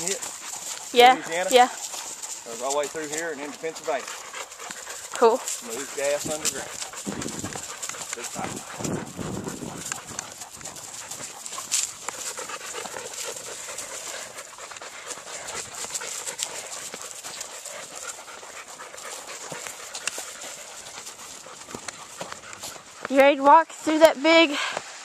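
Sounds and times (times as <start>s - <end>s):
dog panting: 0.0s - 25.0s
footsteps in dry grass and leaves: 0.0s - 25.0s.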